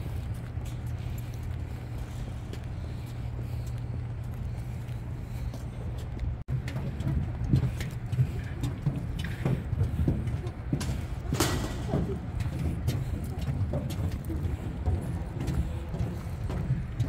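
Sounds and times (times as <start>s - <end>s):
footsteps on pontoon: 0.0s - 17.0s
heavy footsteps on metal gangway: 0.0s - 17.0s.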